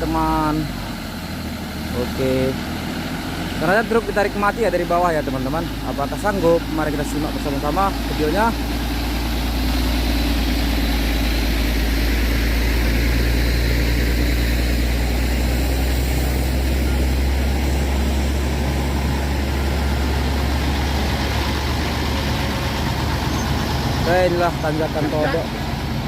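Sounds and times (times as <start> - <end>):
heavy truck engine droning: 0.0 - 26.0.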